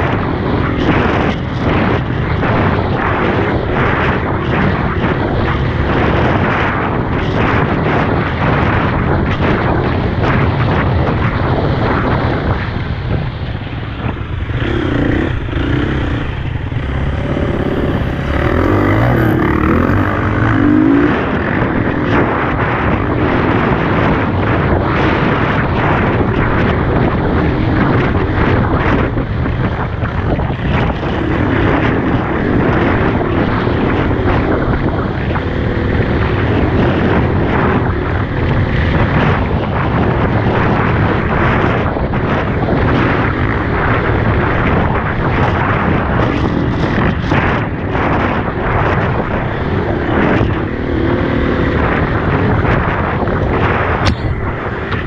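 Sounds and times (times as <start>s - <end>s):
dirt bike engine running: 0.0s - 55.0s
wind noise on microphone: 0.0s - 55.0s.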